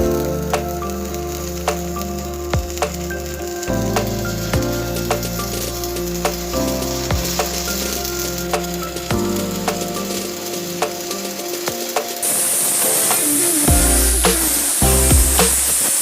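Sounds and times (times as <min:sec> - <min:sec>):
background music with low chords: 0:00.0 - 0:12.3, 0:13.7 - 0:15.9
crackling sizzle with pops: 0:00.0 - 0:16.0.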